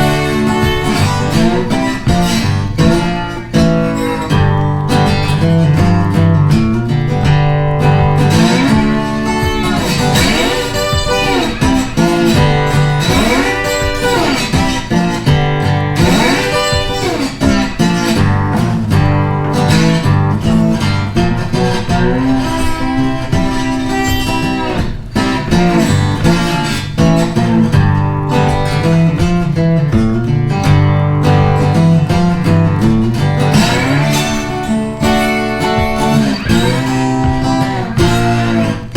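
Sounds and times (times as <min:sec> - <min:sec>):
guitar-led background music: 0:00.0 - 0:38.9.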